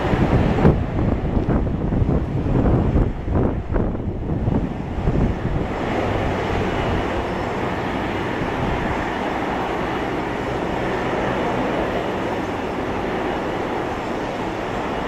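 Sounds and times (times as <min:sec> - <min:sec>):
aircraft engines taxiing: 0:00.0 - 0:15.0.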